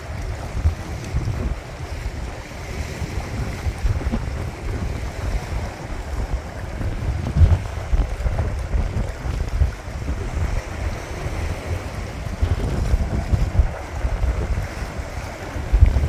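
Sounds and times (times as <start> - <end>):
sea noise: 0.0 - 16.0
wind buffeting microphone: 0.0 - 16.0.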